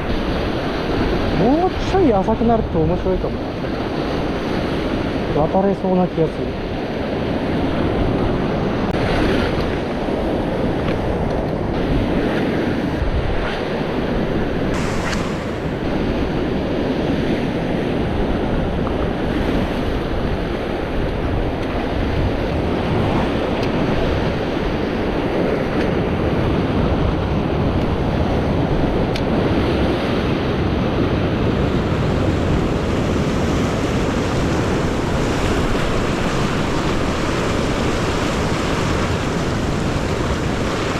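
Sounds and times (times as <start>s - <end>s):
wind buffeting microphone: 0.0s - 5.6s, 6.5s - 40.9s
sea waves surging over rocks: 0.0s - 40.9s.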